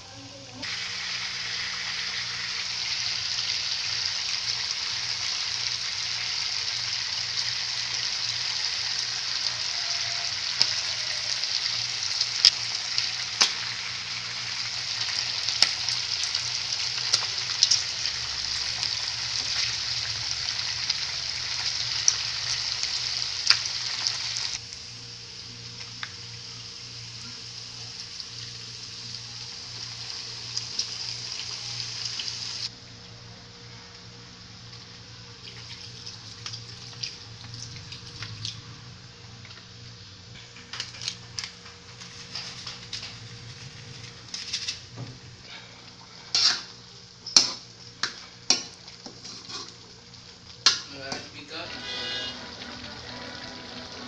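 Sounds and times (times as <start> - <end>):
food sizzling in a wok: 0.0 - 54.0.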